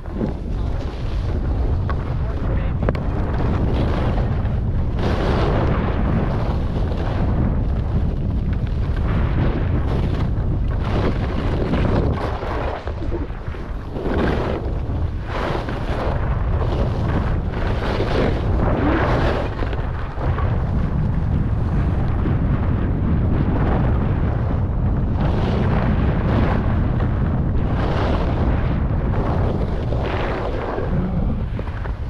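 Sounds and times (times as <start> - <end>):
skis carving packed snow: 0.0 - 32.0
wind rumbling on microphone: 0.0 - 32.0.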